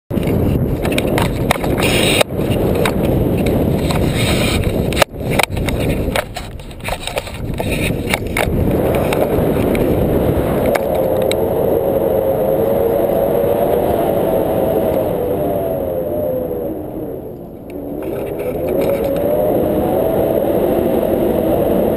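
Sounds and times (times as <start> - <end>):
wind buffeting microphone: 0.1 - 21.9.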